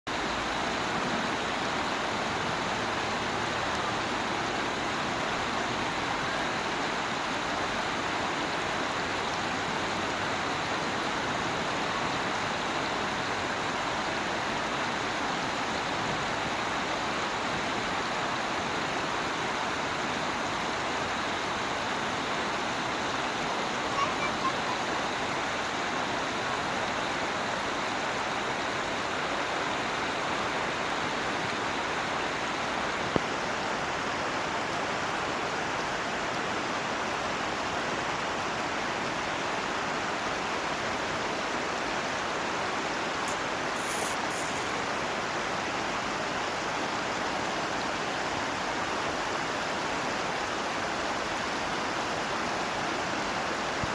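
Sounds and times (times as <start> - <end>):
waterfall roar: 0.1 - 38.4, 39.0 - 53.9.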